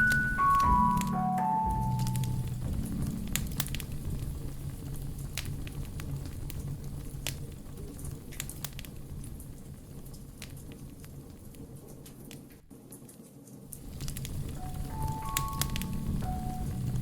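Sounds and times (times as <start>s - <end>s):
steady low hum: 0.0s - 12.6s, 13.7s - 17.0s
wood fire crackling: 0.0s - 17.0s.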